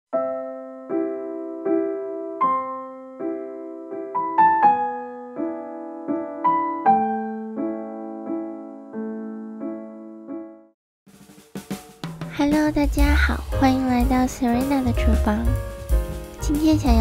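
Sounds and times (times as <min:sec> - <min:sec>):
gentle piano keyboard music: 0:00.1 - 0:10.8, 0:12.6 - 0:17.0.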